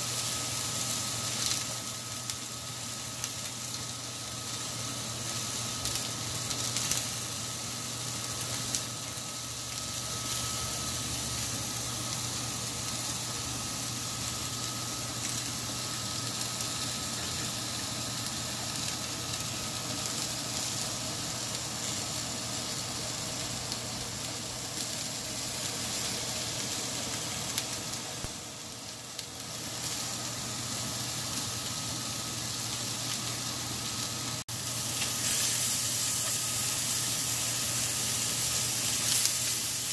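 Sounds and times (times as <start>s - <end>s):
bread sizzling on a griddle: 0.0s - 39.9s.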